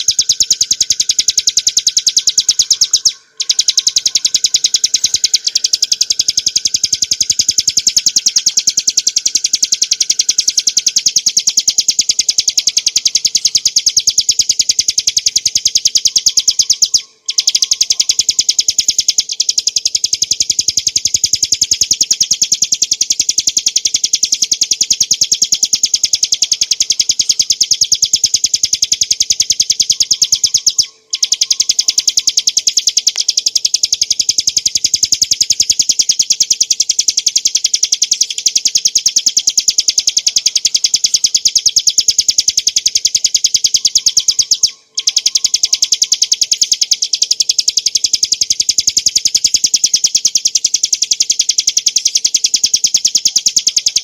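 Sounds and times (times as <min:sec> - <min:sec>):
bird singing rapid trill: 0:00.0 - 0:54.0.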